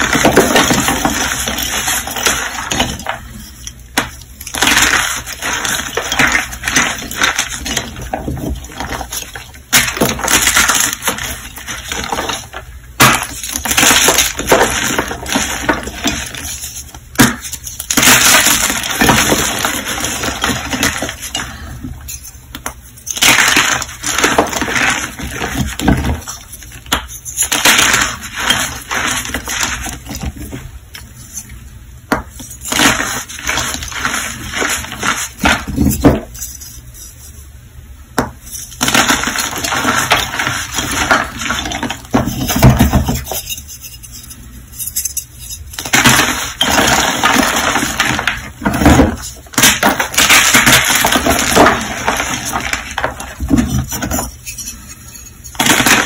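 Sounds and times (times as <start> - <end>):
chalk pieces cracking: 0.0 - 31.4, 32.4 - 37.3, 38.5 - 56.0.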